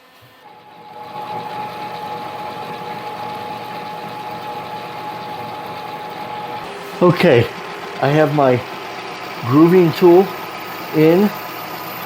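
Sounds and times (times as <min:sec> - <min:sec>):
lathe motor humming and whining: 0:00.0 - 0:12.0.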